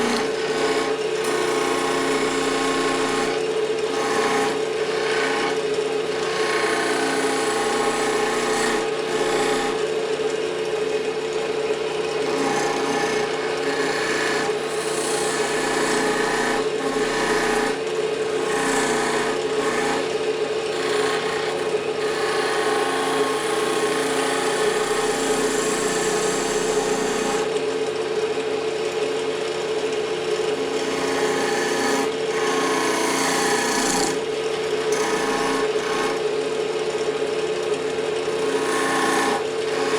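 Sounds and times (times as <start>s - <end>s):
turning tool scraping wood: 0.0s - 9.9s, 12.2s - 27.8s, 30.4s - 39.9s
wood lathe humming: 0.0s - 39.9s.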